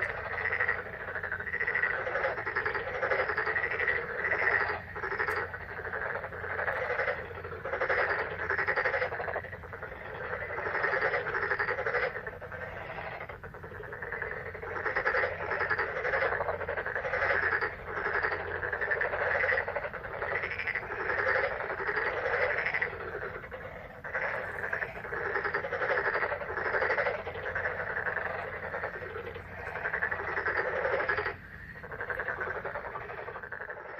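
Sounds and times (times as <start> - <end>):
frogs croaking: 0.0 - 33.9.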